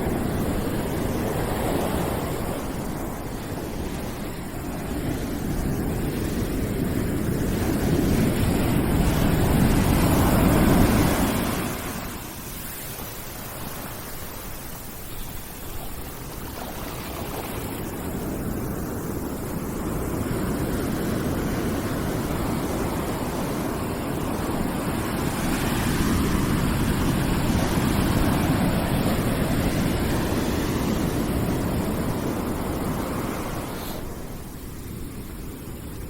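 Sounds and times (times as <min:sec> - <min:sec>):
steady rushing hiss: 0:00.0 - 0:36.0.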